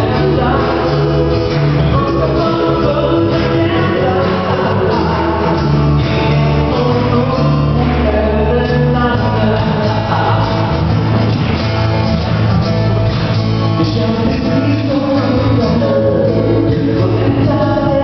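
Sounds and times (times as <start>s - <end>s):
person singing: 0.0s - 11.2s, 13.6s - 18.0s
acoustic guitars playing: 0.0s - 18.0s.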